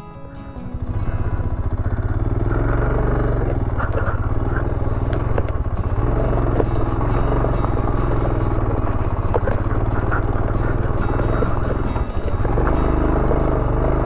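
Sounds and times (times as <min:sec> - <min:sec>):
motorcycle engine running: 0:00.4 - 0:14.0
light clicks and clatter: 0:01.8 - 0:14.0.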